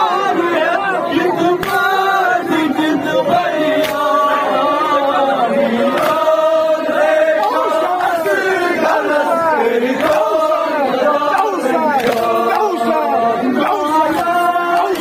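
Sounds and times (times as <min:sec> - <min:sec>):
men chanting through loudspeaker: 0:00.0 - 0:15.0.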